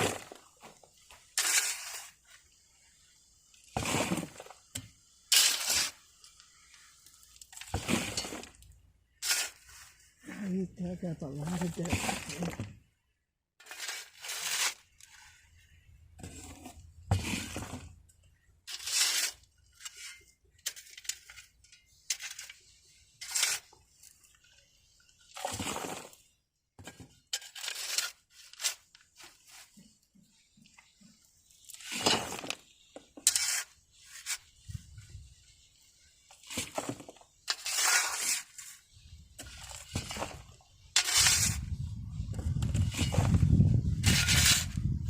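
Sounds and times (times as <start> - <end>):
garden tool scraping soil: 0.0 - 12.6, 13.6 - 18.0, 18.6 - 45.0.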